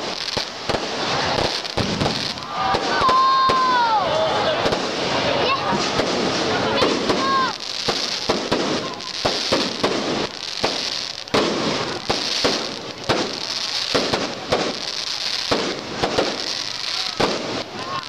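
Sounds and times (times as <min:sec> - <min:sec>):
crackling hiss: 0:00.0 - 0:18.0
fireworks bangs and pops: 0:00.0 - 0:18.0.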